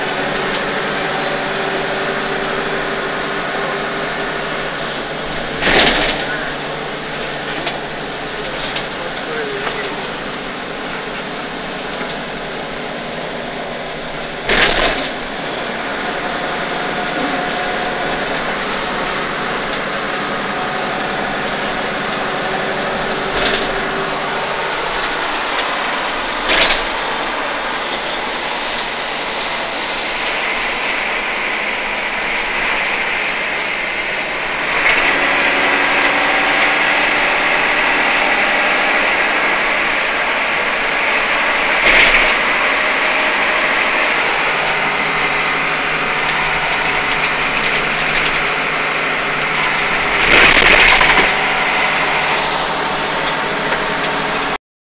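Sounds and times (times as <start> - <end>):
bus engine and tyres: 0.0 - 54.6.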